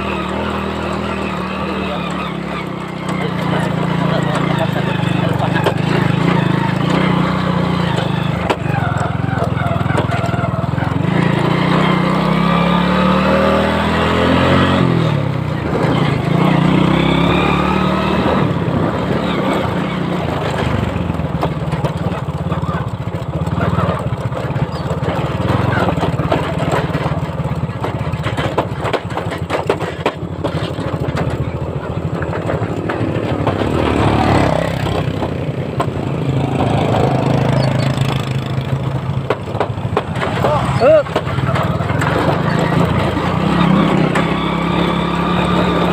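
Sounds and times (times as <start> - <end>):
knocks and rattles from bumps: 0.0 - 45.9
small motorcycle engine: 0.0 - 45.9.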